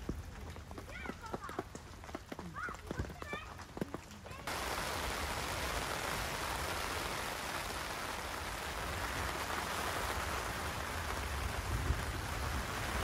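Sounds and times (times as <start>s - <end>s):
rain on tent fabric: 0.0s - 13.0s.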